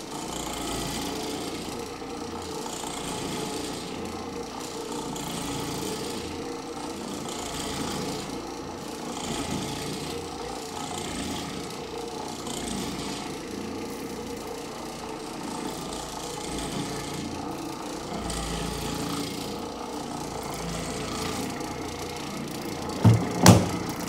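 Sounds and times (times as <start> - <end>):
floor machine motor running: 0.0 - 24.0.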